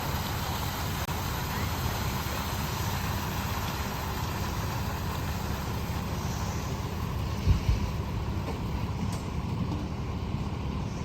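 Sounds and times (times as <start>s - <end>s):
even hiss: 0.0s - 8.9s
vehicle engine rumble: 0.0s - 11.0s.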